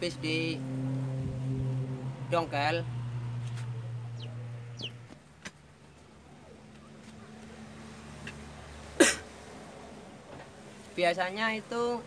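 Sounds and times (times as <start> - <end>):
distant motor vehicle engine drone: 0.0 - 10.9.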